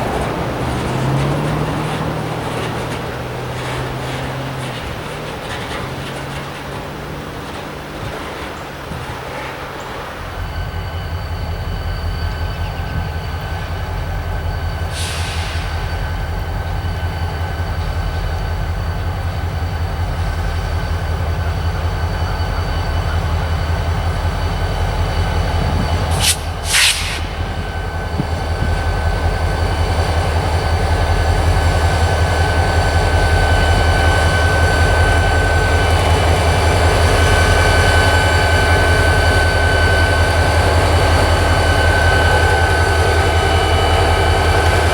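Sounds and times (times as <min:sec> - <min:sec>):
diesel train passing: 0:00.0 - 0:44.9.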